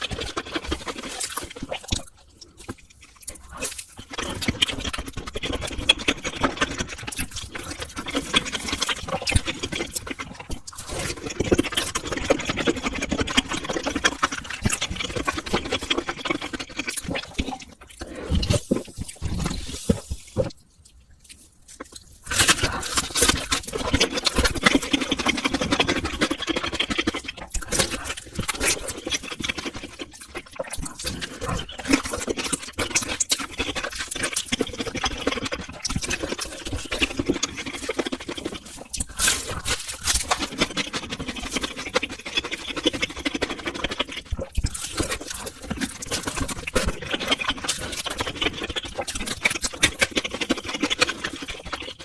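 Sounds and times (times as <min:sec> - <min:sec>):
mouth clicks and smacks: 0:00.0 - 0:52.0
slurping and chewing noodles: 0:00.0 - 0:52.0.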